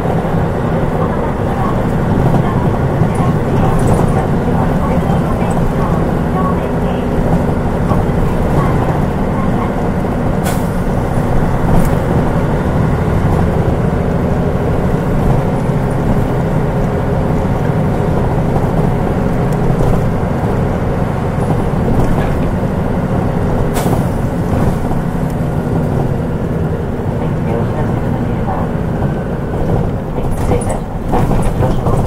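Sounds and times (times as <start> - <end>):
bus engine and road noise: 0.0 - 32.0.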